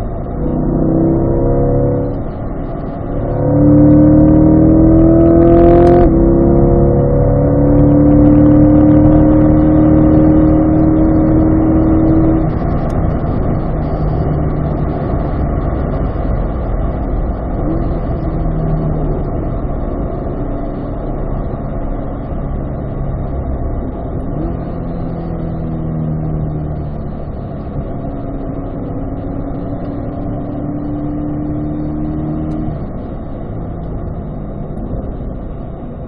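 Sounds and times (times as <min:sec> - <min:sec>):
car engine with gear shifts: 0:00.0 - 0:36.0
wind noise: 0:00.0 - 0:36.0.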